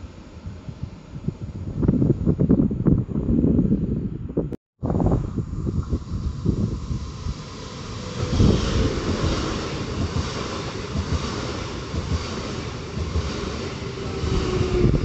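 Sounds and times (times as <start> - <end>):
train wheel and air noise: 0.0 - 15.0.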